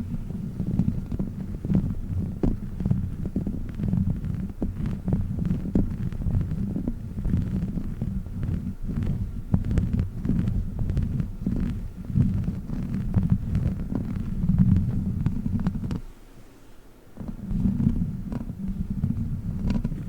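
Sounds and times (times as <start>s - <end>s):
woven tube rubbed on microphone: 0.0s - 20.0s.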